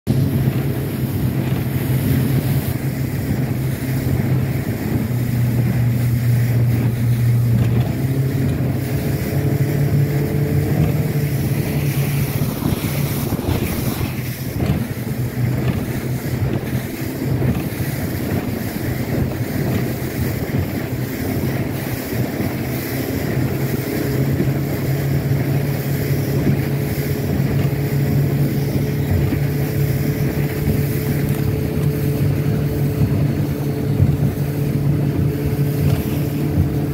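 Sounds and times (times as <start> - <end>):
outboard motor running: 0.1 - 36.9
water rushing past hull: 0.1 - 36.9
wind buffeting microphone: 0.1 - 36.9.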